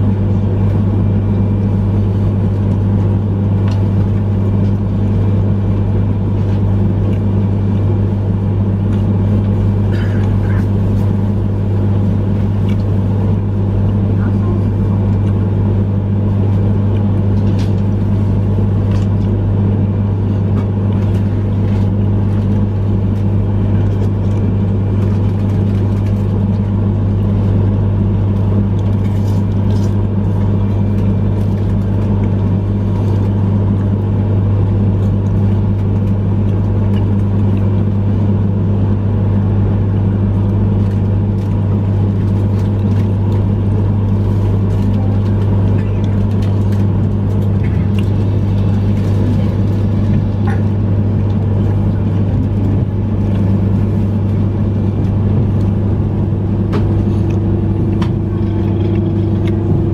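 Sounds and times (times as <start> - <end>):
train equipment humming: 0.0 - 59.9.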